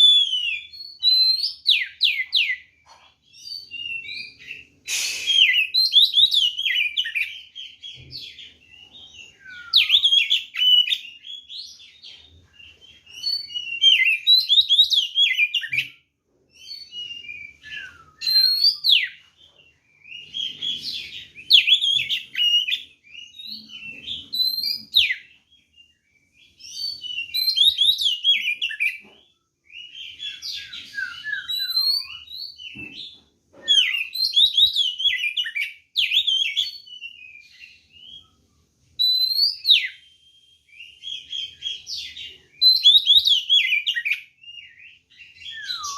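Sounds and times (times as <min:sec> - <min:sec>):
bird singing whistled notes: 0:00.0 - 0:32.8, 0:33.6 - 0:45.9.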